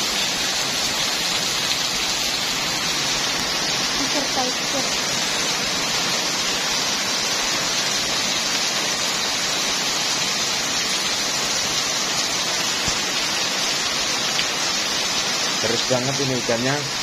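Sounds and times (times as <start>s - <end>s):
torrential rain pouring: 0.0s - 17.0s.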